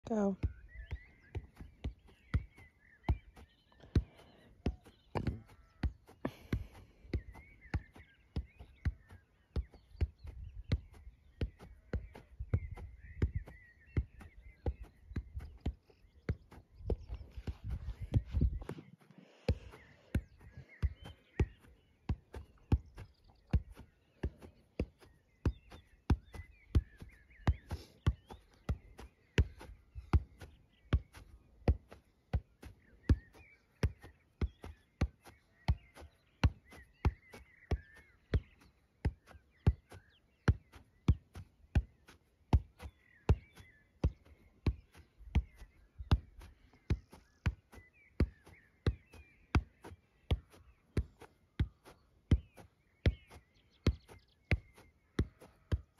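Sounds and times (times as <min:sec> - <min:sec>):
foot thudding on a football: 0:01.3 - 0:55.9.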